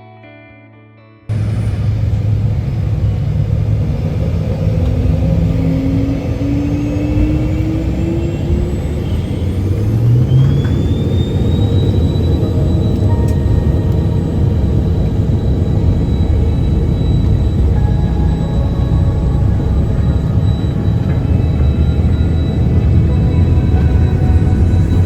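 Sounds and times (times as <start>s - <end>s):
engine whine climbing: 1.3s - 25.0s
jet engines spooling up: 1.3s - 25.0s.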